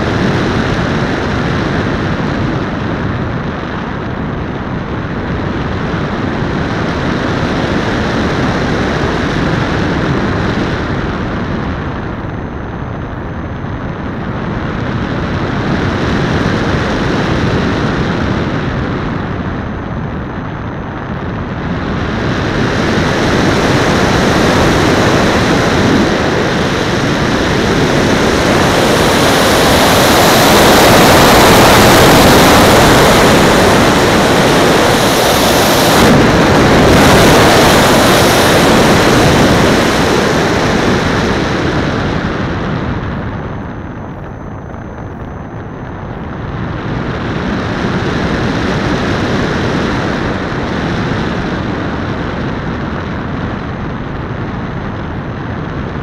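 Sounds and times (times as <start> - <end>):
wind noise roaring: 0.0 - 56.0.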